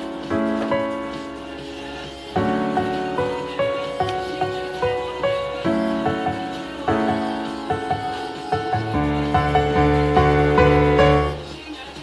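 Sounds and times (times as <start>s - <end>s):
soft piano instrumental music: 0.0s - 12.0s.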